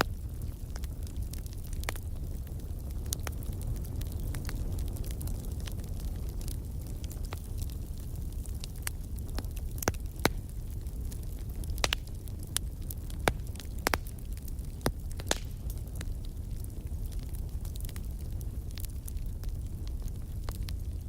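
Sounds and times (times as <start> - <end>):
firewood crackling and popping: 0.0 - 21.0
low rumble of fire: 0.0 - 21.0.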